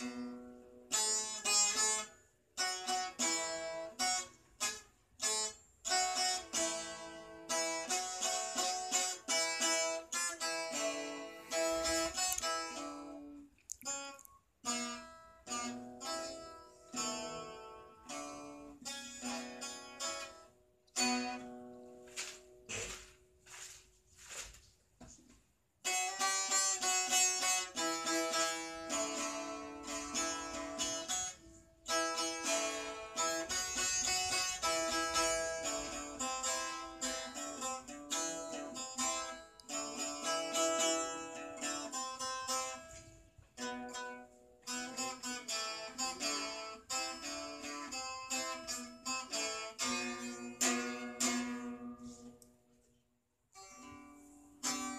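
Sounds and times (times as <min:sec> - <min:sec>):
plucked long-necked lute: 0:00.0 - 0:24.4, 0:25.8 - 0:54.9.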